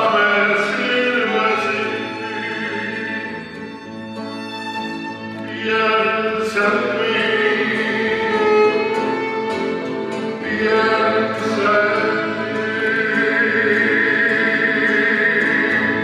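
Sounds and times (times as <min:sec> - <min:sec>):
man singing: 0:00.0 - 0:03.8, 0:05.4 - 0:16.0
classical guitars: 0:00.0 - 0:16.0
violin: 0:00.0 - 0:16.0.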